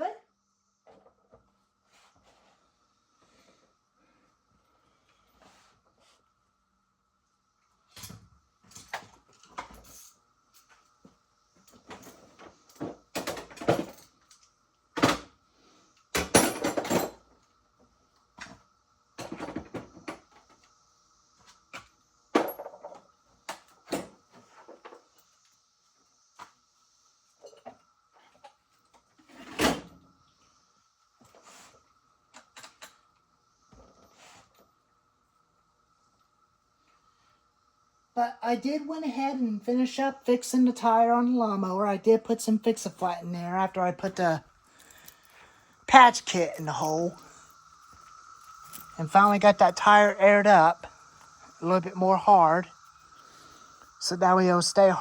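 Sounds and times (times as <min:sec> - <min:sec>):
faint high whine: 0:00.0 - 0:55.0.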